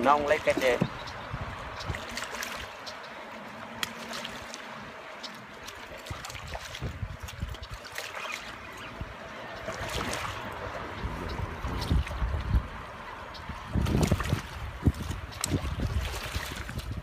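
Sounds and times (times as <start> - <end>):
wind buffeting microphone: 0.0 - 2.8, 5.8 - 17.0
river water rushing: 0.0 - 16.7.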